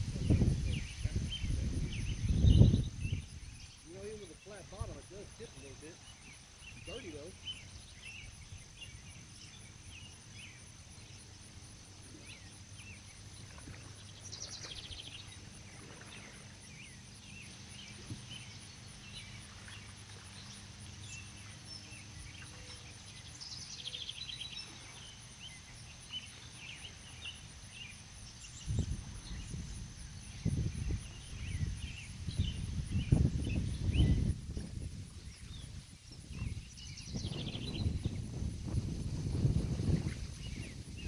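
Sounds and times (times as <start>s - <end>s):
high insect drone: 0.0s - 41.0s
small birds chirping: 0.0s - 41.0s.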